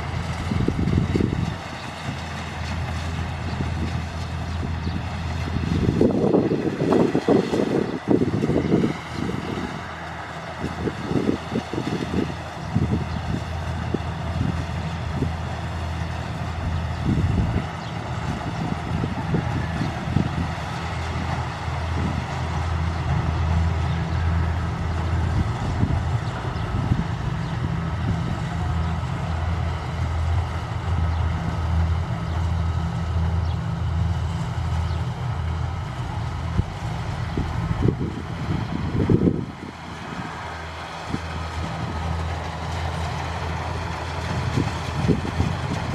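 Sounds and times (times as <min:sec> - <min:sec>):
harvester diesel engine droning: 0:00.0 - 0:45.9
wind buffeting microphone: 0:00.0 - 0:45.9.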